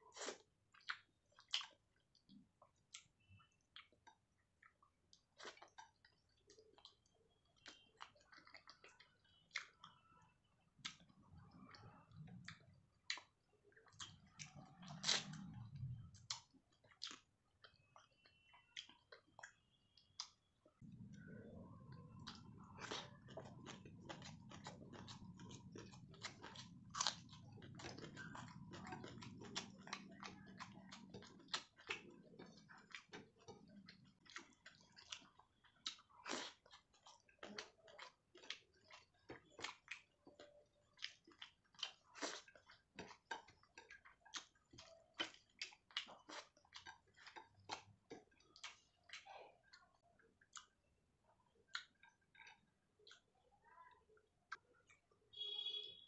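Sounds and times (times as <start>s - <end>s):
chewing and eating: 0.0s - 55.3s.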